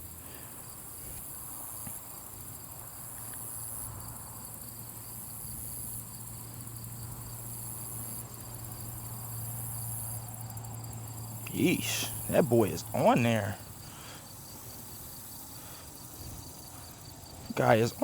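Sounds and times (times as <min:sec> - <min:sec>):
insects chirring: 0:00.1 - 0:18.0.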